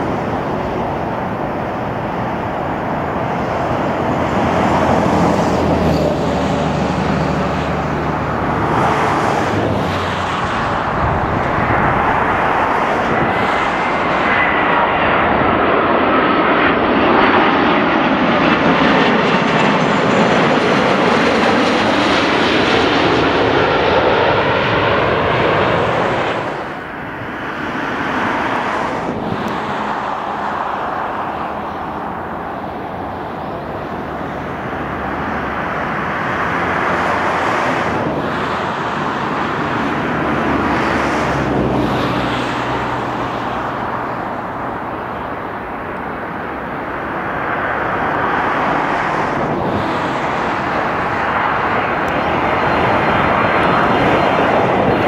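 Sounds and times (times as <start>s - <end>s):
airliner jet passing overhead: 0.0s - 55.0s.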